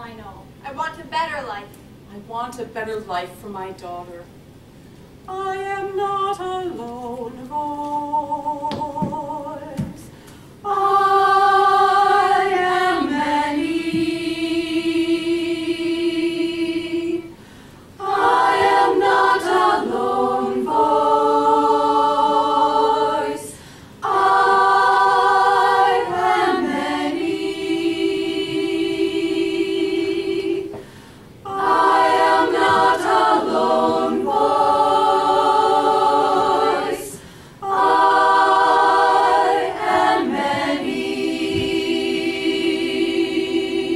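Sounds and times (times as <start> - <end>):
women's choir singing a cappella: 5.3 - 43.9.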